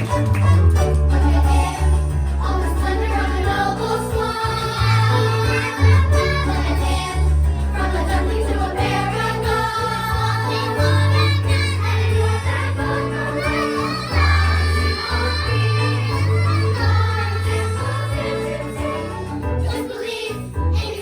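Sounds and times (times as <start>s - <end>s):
instrumental accompaniment: 0.0s - 20.2s
chorus singing together: 1.1s - 21.0s.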